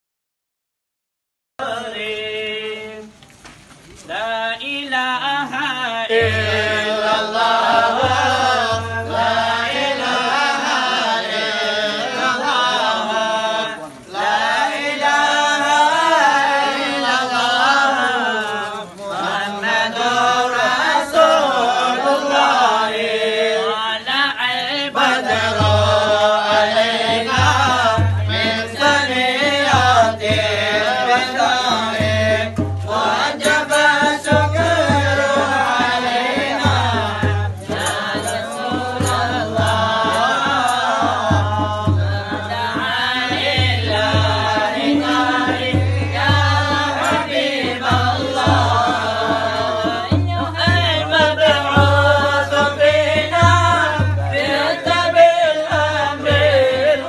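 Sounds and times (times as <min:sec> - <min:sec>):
devotional chanting: 0:01.6 - 0:57.0.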